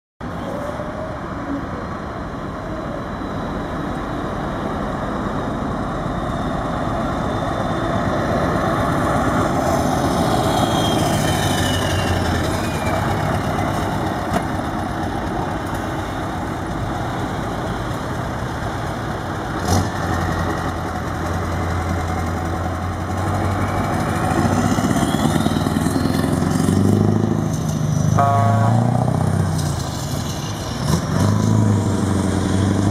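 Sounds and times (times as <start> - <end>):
truck engine running and revving: 0.2 - 32.9.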